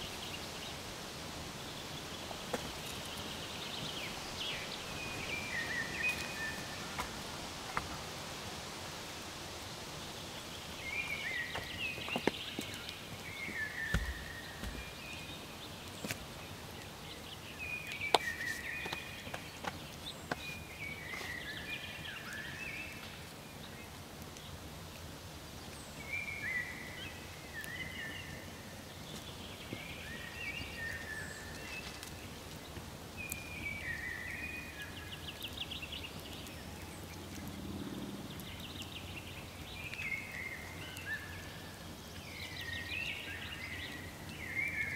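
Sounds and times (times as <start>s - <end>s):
songbird singing: 0.0s - 8.1s, 9.6s - 24.6s, 25.6s - 44.9s
outdoor hiss: 0.0s - 37.4s.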